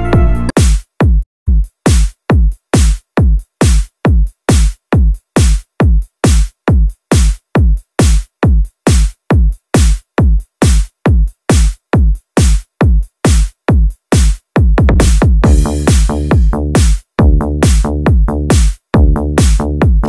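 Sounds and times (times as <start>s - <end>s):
kick drum beat: 0.0s - 20.0s.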